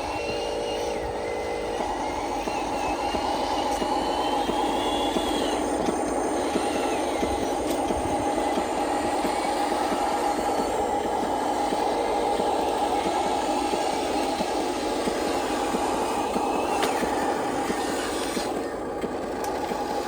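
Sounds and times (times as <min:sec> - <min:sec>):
electric motors whirring: 0:00.0 - 0:20.0.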